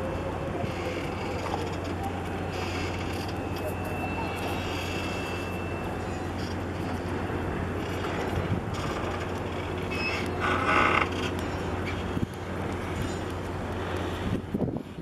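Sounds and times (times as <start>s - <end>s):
low mechanical hum: 0.0s - 15.0s
outdoor background noise: 0.0s - 15.0s.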